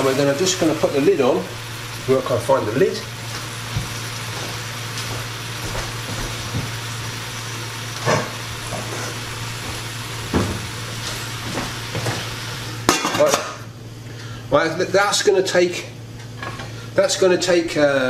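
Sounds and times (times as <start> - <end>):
onions sizzling in pot: 0.0 - 15.6.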